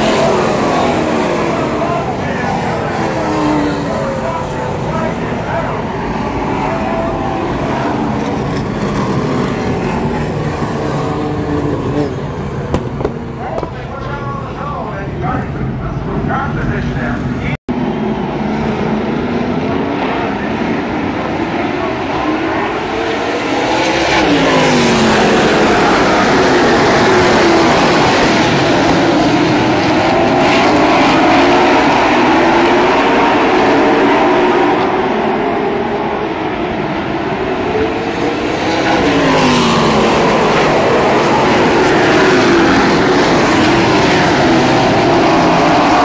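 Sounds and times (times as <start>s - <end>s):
race car engines passing: 0.0s - 46.0s.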